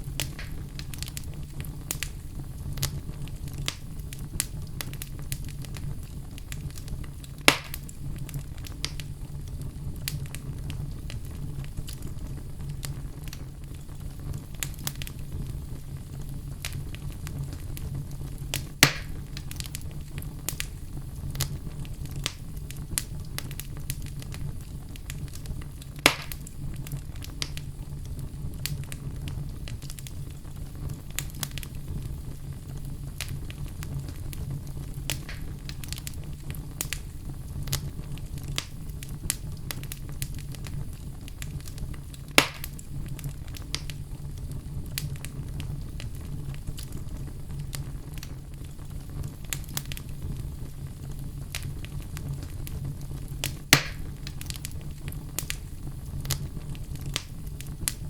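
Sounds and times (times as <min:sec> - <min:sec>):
loud fire pops: 0:00.0 - 0:58.0
low fire rumble: 0:00.0 - 0:58.0
wood fire crackling: 0:00.0 - 0:58.0.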